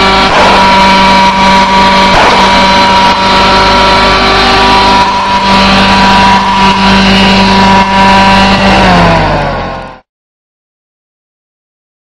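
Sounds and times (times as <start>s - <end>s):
motor running: 0.0s - 10.0s.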